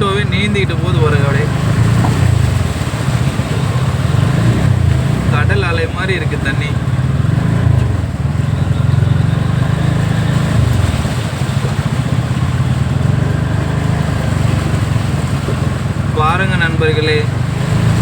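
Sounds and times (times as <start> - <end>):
vehicle engine rumbling: 0.0 - 18.0
vehicle moving through water: 0.0 - 18.0.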